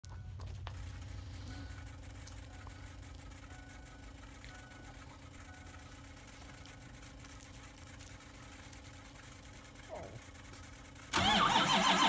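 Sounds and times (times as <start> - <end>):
fuel pump electric hum: 0.0 - 12.0.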